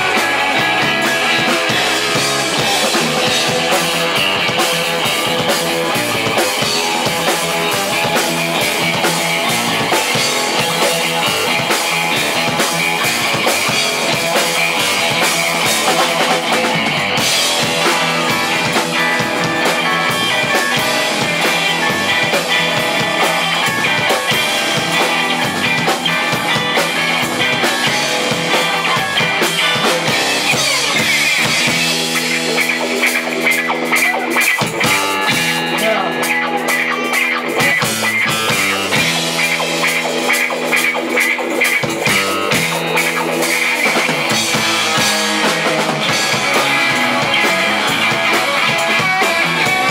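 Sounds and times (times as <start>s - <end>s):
bass guitar: 0.0s - 49.9s
drum kit: 0.0s - 49.9s
electric guitar: 0.0s - 49.9s
keyboard: 0.0s - 49.9s.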